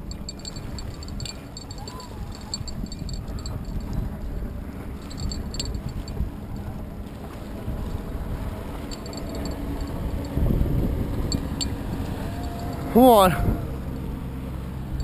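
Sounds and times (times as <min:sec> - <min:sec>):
motorboat engine drone: 0:00.0 - 0:15.0
wind rumble on microphone: 0:00.0 - 0:15.0.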